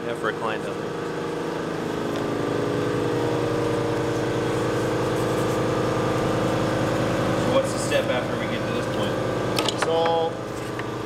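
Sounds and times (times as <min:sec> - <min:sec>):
power tool motor drone: 0:00.7 - 0:11.0.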